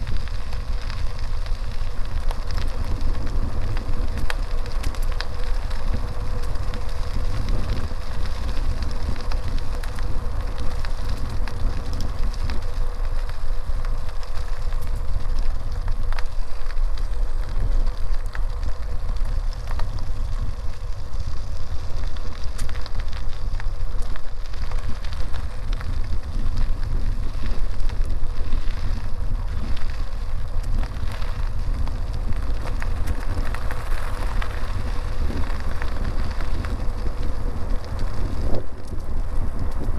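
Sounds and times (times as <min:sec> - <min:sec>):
small clicks and rattles: 0:00.0 - 0:39.9
tyres rolling on road: 0:00.0 - 0:39.9
wind buffeting microphone: 0:00.0 - 0:39.9.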